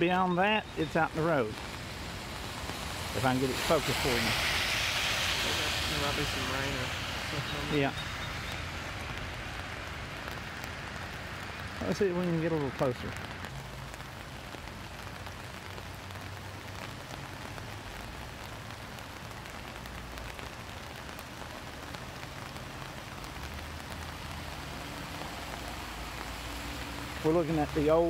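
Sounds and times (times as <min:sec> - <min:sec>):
rain on wet ground: 0:00.0 - 0:28.0.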